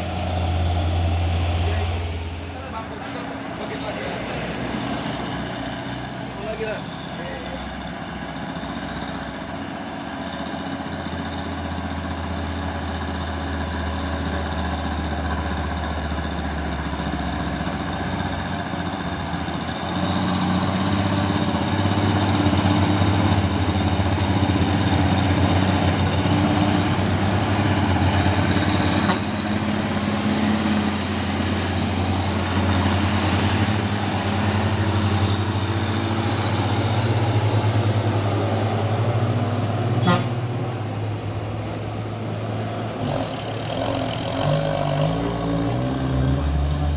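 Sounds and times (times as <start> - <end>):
diesel truck engine revving: 0.0 - 46.9.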